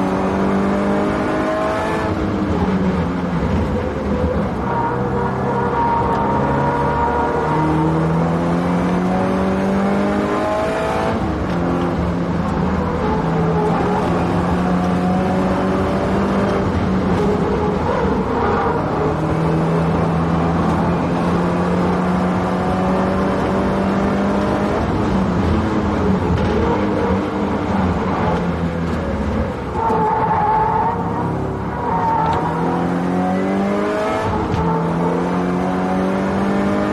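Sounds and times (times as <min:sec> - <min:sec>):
car engine at full throttle: 0:00.0 - 0:36.9
wind and tyre noise: 0:00.0 - 0:36.9.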